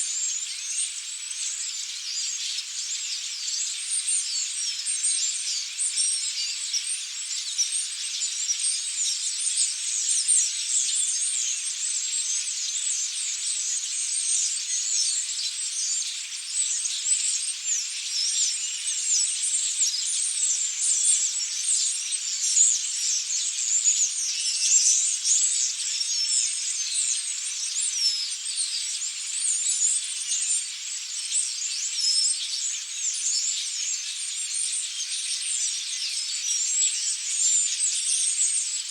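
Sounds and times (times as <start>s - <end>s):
flock of starlings chattering: 0.0s - 38.9s.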